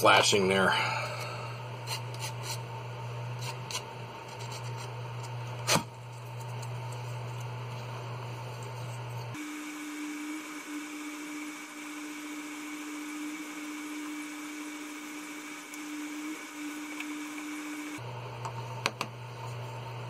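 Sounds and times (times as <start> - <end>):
low electrical hum: 0.0 - 20.0
small motor humming with whine: 0.9 - 20.0.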